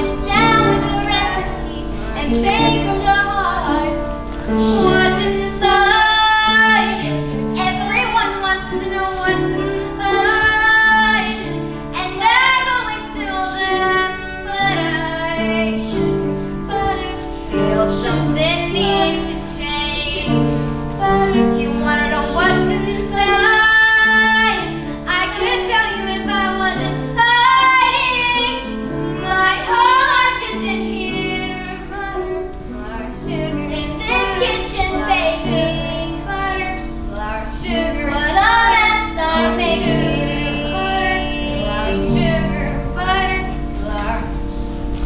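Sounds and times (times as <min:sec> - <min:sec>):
girls singing a slow song: 0:00.0 - 0:45.0.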